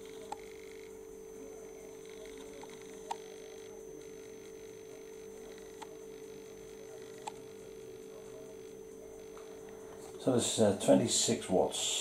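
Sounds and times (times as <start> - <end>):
faint high whine: 0.0 - 12.0
inverter humming: 0.0 - 12.0.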